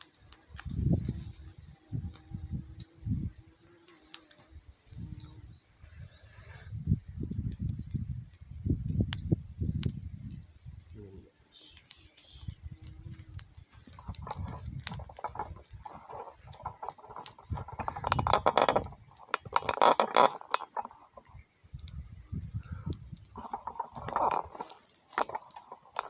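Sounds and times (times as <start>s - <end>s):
small clicks and crackles: 0.0s - 5.4s, 7.1s - 26.0s
wind buffeting microphone: 0.5s - 3.5s, 4.6s - 11.1s, 12.3s - 20.1s, 20.7s - 26.0s.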